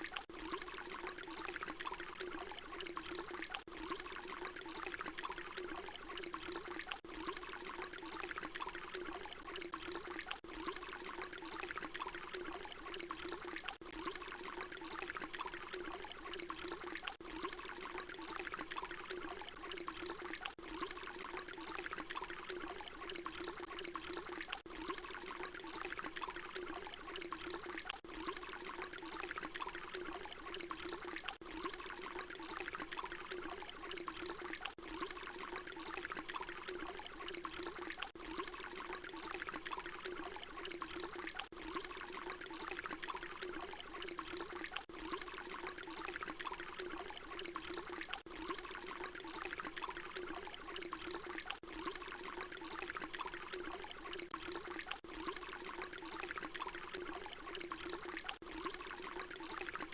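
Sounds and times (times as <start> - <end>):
water pouring: 0.0 - 59.9.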